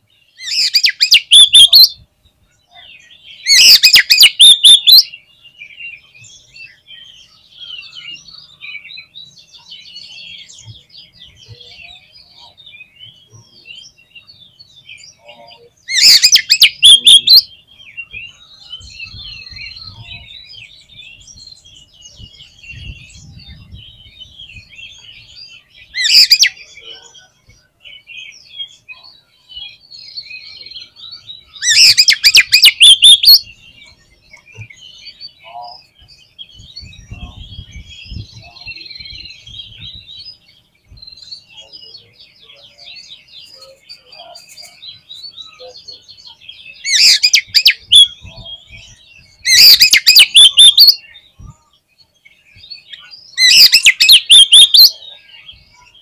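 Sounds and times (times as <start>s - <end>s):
high twittering bird song: 0.0s - 56.0s
loud rapid bird song bursts: 0.0s - 56.0s.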